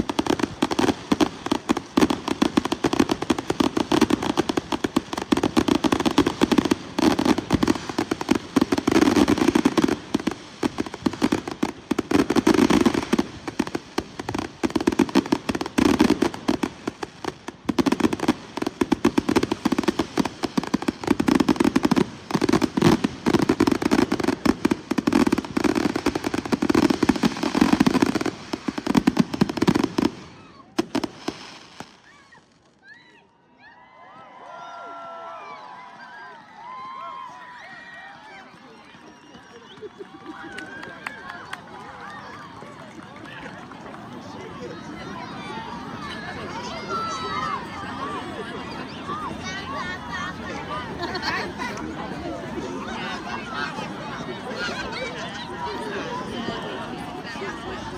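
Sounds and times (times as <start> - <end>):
fireworks bangs and crackles: 0.0 - 32.8, 43.4 - 57.9.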